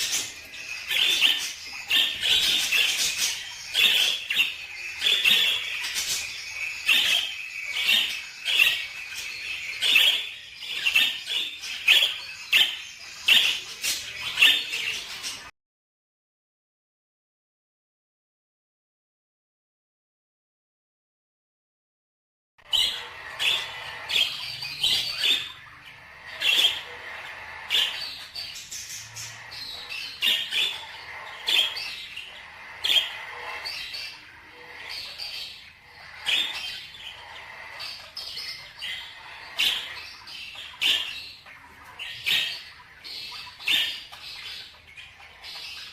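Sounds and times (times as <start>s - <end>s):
cage birds chirping: 0.0s - 15.5s, 22.6s - 45.9s.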